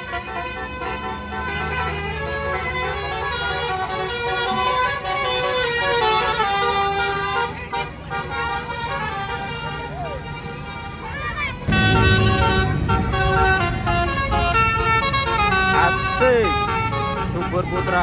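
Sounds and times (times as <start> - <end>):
bus engine noise: 0.0 - 18.0
musical bus air horn: 0.0 - 18.0.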